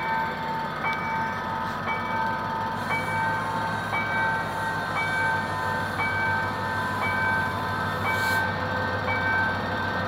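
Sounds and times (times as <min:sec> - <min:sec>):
diesel locomotive running: 0:00.0 - 0:10.0
level crossing warning tone: 0:00.0 - 0:10.0.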